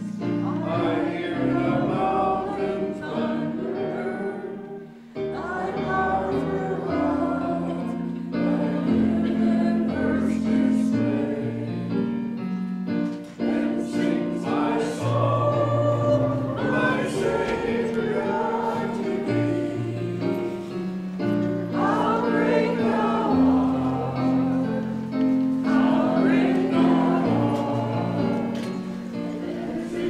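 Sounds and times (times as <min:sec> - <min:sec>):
choir singing long held notes: 0:00.0 - 0:30.0.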